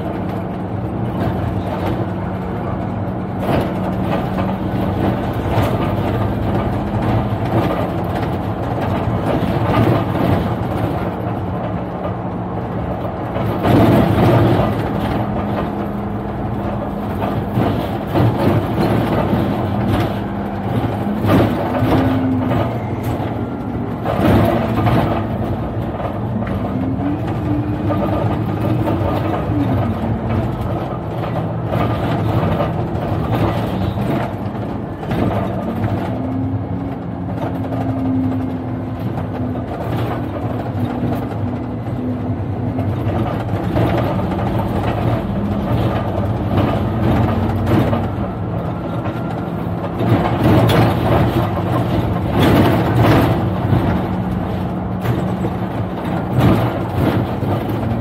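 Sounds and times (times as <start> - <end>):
bus engine running: 0.0 - 58.0
rattling and knocking: 0.0 - 58.0.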